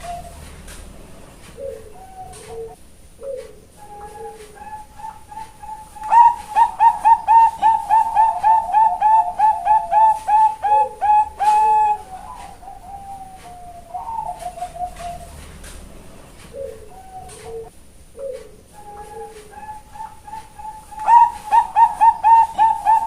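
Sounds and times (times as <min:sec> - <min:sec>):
zebra dove cooing: 0:00.0 - 0:23.0.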